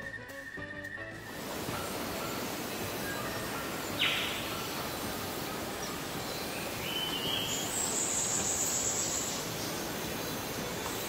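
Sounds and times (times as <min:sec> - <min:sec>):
hiss of insects: 0:01.1 - 0:11.0
sudden hissing burst: 0:01.2 - 0:11.0.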